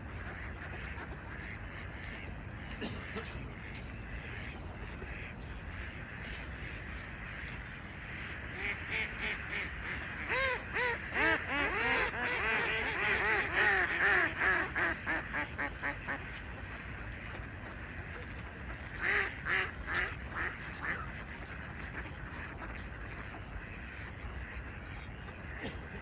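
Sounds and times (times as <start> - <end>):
waterbirds calling: 0.0 - 26.0.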